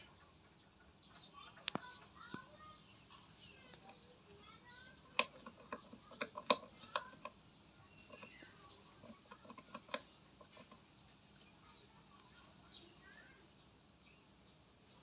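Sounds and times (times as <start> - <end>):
rabbit nibbling dry grass: 1.1 - 15.0.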